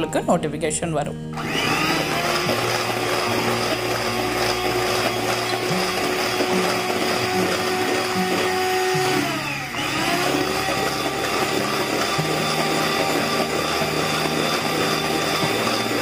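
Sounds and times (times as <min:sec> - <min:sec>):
electric hand mixer whipping: 0:01.3 - 0:16.0.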